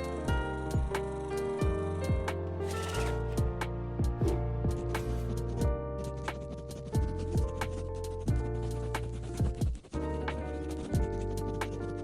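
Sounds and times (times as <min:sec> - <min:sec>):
electronic music with steady beat: 0:00.0 - 0:09.9.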